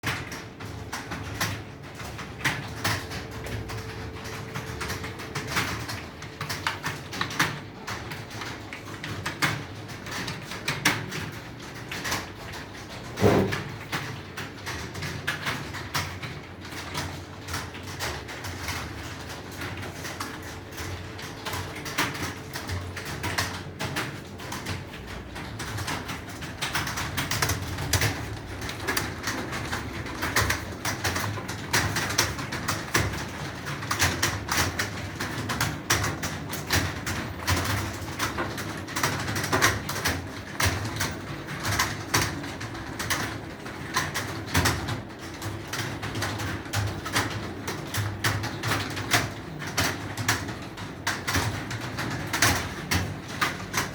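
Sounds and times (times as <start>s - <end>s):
keyboard typing: 0.0s - 53.9s.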